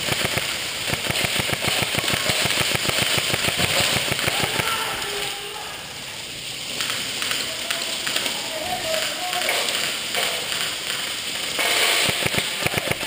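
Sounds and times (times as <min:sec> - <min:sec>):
rapid airsoft gunfire: 0:00.0 - 0:04.8, 0:06.7 - 0:13.0.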